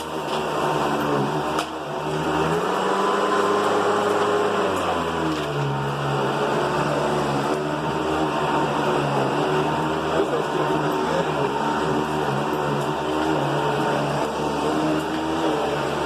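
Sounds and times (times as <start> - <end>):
upright vacuum cleaner running: 0.0 - 16.0.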